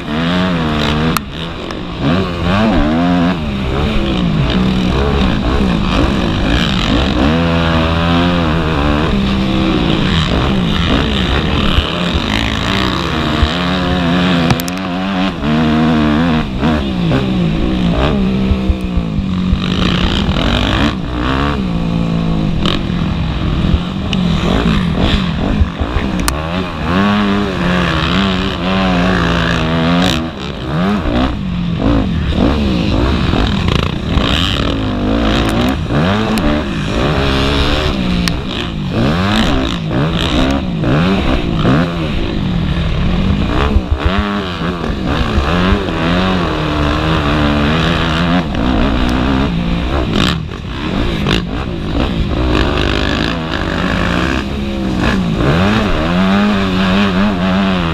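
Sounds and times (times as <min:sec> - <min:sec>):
motocross bike engines revving: 0:00.0 - 0:57.9.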